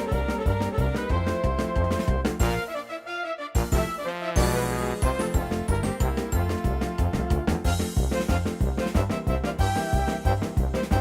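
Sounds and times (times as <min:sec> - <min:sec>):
bass line: 0:00.0 - 0:02.7, 0:03.6 - 0:11.0
upbeat bouncy music: 0:00.0 - 0:11.0.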